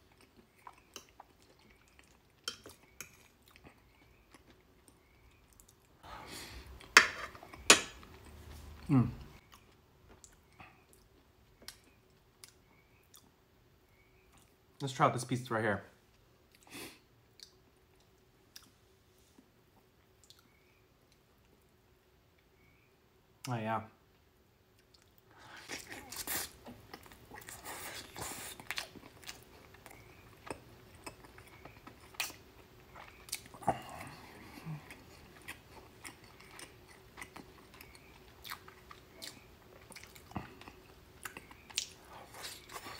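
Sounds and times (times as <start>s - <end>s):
person chewing green beans: 0.0s - 13.3s, 17.3s - 18.8s, 19.4s - 21.6s, 24.7s - 42.9s.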